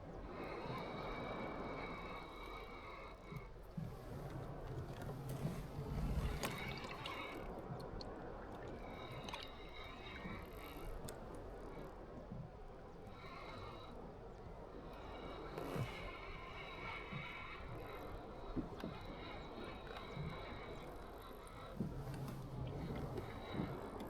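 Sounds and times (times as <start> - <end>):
water lapping around a kayak: 0.0 - 24.0.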